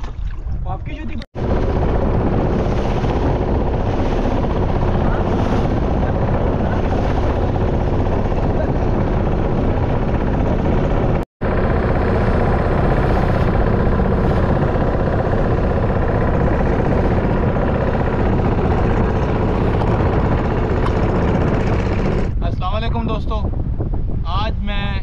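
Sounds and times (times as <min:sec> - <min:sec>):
boat engine running: 0:00.0 - 0:22.4.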